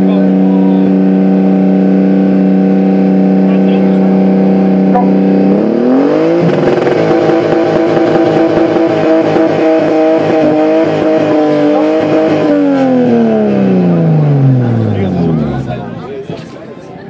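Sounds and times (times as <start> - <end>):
car exhaust revving: 0.0 - 16.4.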